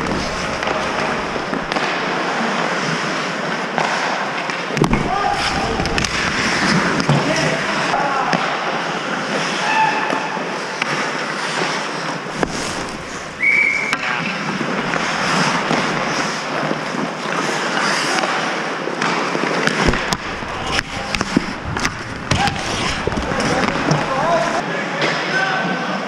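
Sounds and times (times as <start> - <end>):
skates scraping on ice: 0.0 - 8.0, 8.6 - 24.6
clacks of sticks and puck: 0.0 - 25.8.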